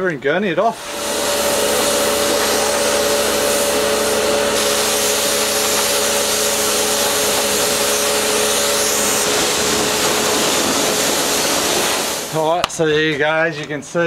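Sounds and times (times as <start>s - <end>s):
pressure washer running: 0.7s - 12.7s.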